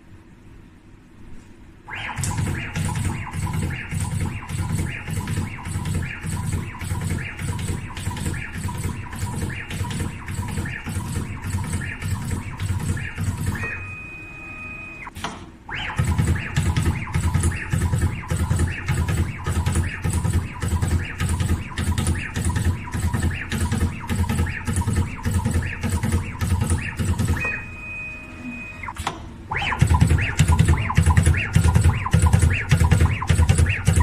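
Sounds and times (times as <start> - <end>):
steady high tone: 1.9 - 34.0.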